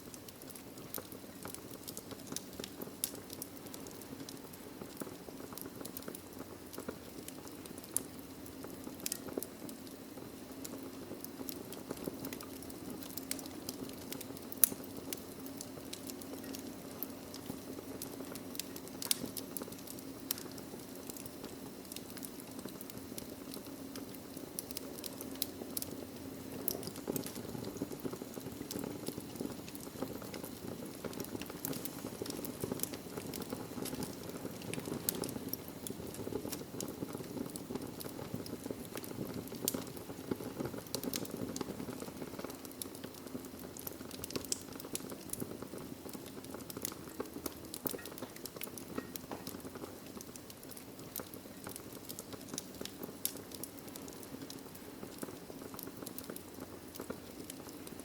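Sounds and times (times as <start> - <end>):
crackles and pops from logs: 0.0 - 58.0
fire flames rushing: 0.1 - 58.0.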